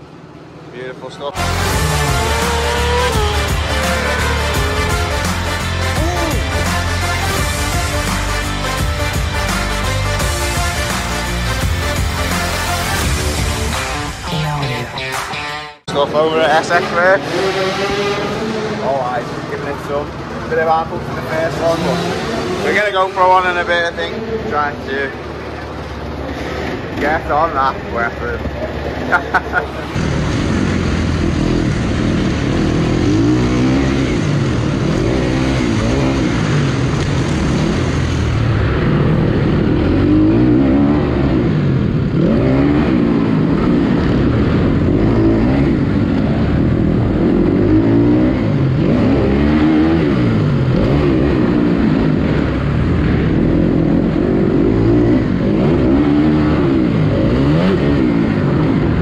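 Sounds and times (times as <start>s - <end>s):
motocross bike engine revving: 1.3s - 14.2s, 16.2s - 20.4s, 21.2s - 59.0s.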